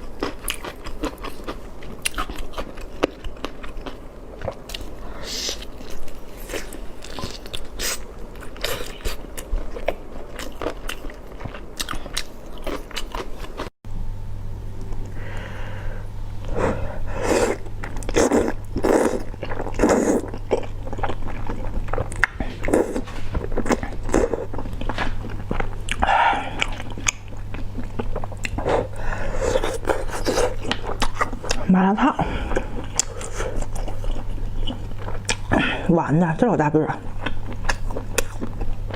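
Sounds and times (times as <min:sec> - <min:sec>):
person chewing and crunching food: 0:00.0 - 0:13.8, 0:16.4 - 0:35.8, 0:37.0 - 0:38.9
steady low hum: 0:00.0 - 0:38.9.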